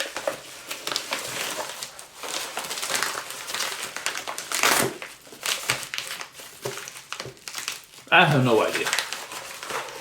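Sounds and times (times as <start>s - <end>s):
packaging wrapping rustling: 0.0s - 10.0s.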